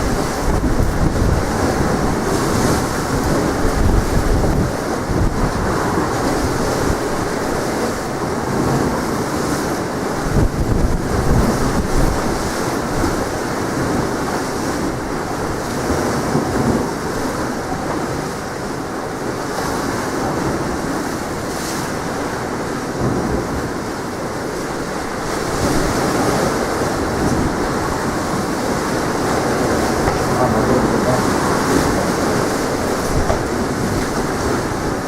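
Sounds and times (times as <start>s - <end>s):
sea waves washing ashore: 0.0s - 35.0s
wind buffeting microphone: 0.0s - 35.0s.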